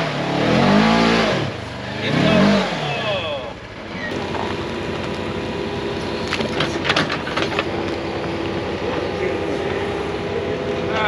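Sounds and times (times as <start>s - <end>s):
construction machine engine running: 0.2s - 11.0s.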